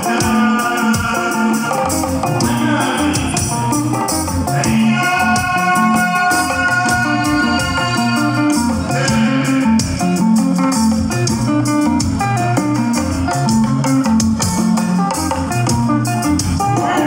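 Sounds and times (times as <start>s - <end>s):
bass guitar bouncing line: 0.0s - 17.0s
drums: 0.0s - 17.0s
electric guitar picking high notes: 0.0s - 17.0s.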